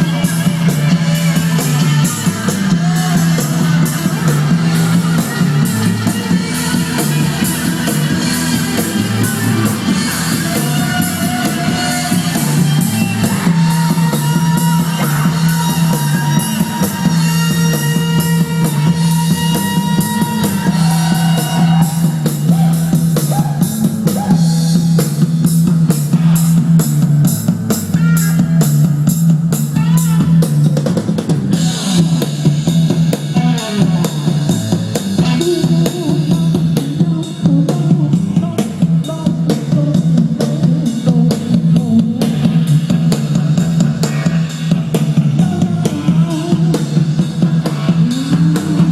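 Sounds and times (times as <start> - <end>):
rock music through speakers: 0.0 - 48.9.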